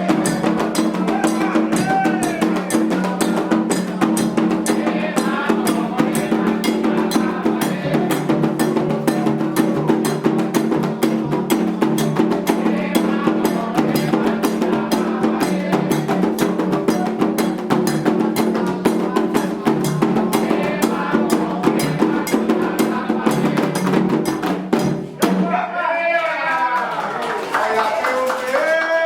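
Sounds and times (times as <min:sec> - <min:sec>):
hand drums beating: 0:00.0 - 0:25.5
voices singing: 0:00.0 - 0:27.0.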